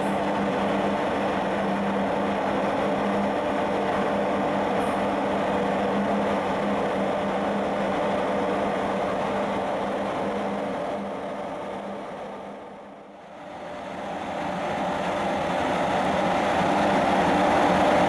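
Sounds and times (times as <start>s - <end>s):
constant low hum: 0.0s - 18.0s
ship engines droning: 0.0s - 18.0s.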